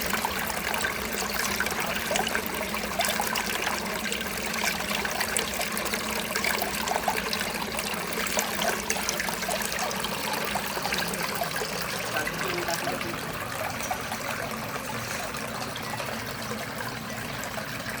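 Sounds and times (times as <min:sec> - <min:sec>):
water trickling and bubbling: 0:00.0 - 0:18.0.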